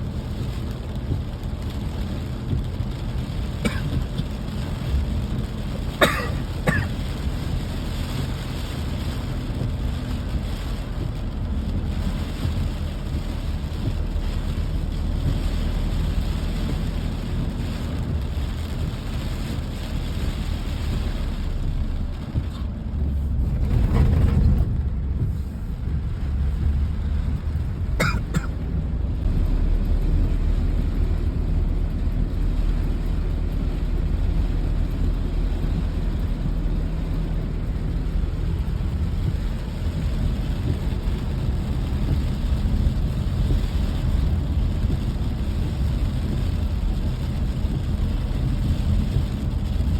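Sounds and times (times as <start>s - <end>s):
rain hiss: 0.0s - 49.9s
low rumble: 7.0s - 49.9s.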